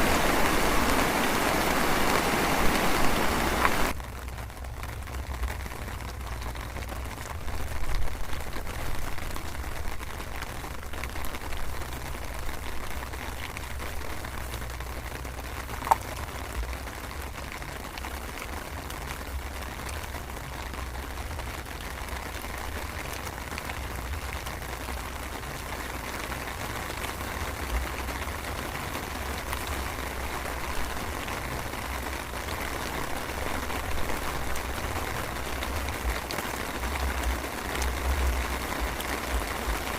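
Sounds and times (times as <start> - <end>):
light drizzle hissing: 0.0 - 39.9.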